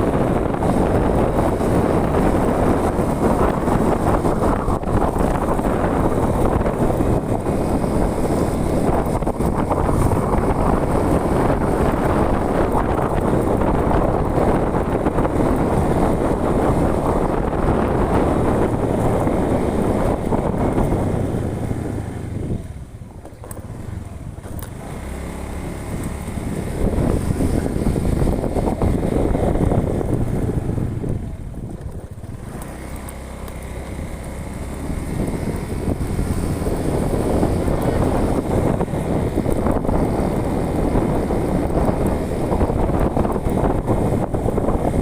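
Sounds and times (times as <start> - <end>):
vehicle driving on road: 0.0 - 45.0
wind rushing over microphone: 0.0 - 45.0.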